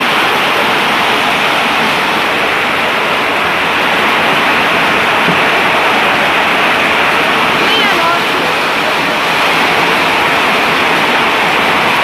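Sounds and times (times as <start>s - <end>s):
hail and rain pouring: 0.0s - 12.0s.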